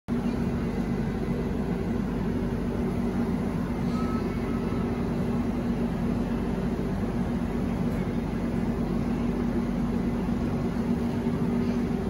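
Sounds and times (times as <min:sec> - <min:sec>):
steady low hum: 0:00.1 - 0:12.0
train wheels rumbling on rails: 0:00.1 - 0:12.0.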